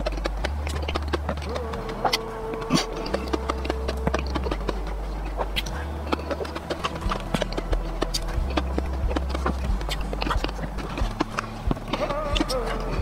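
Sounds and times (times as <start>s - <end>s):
held humming tone: 0.0s - 13.0s
mouth clicking noises: 0.0s - 13.0s
wet chewing: 0.0s - 13.0s.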